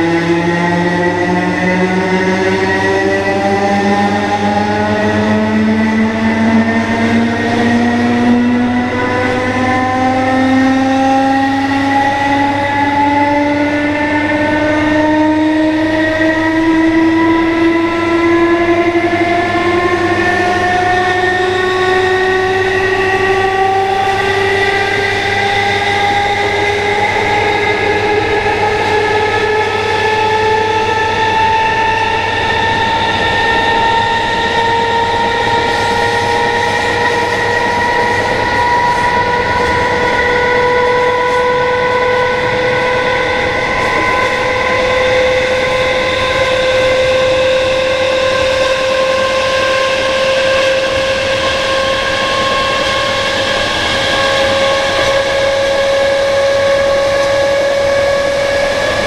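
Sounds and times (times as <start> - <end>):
train traction motors whining: 0.0 - 59.0.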